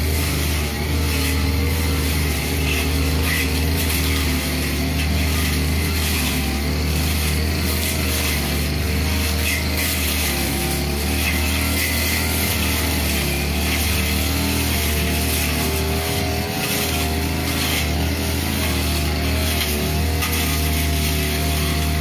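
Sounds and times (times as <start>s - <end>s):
blade cutting through grass: 0.0s - 22.0s
brush cutter engine running: 0.0s - 22.0s.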